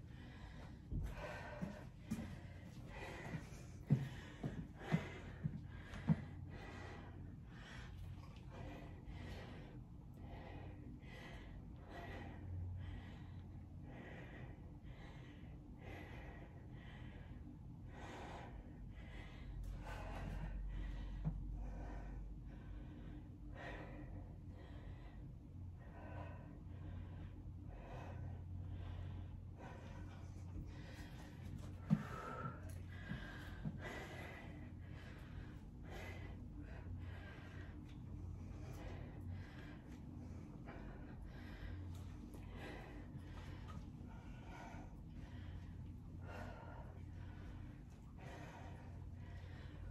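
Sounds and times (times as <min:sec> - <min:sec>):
low steady hum: 0:00.0 - 0:49.9
woman breathing with effort: 0:00.0 - 0:49.9.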